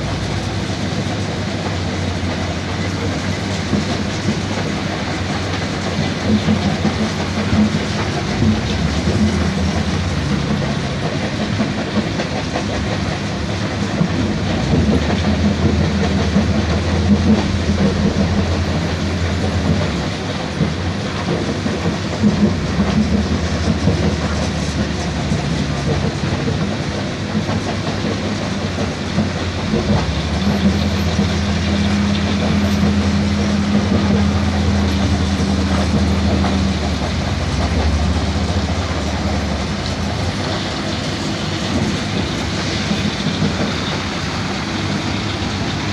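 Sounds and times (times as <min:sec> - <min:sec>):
continuous clattering: 0:00.0 - 0:45.9
truck engine drone: 0:00.0 - 0:45.9.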